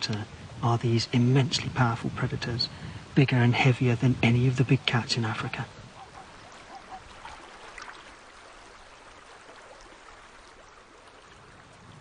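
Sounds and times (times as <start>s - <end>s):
river water hiss: 0.0s - 12.0s.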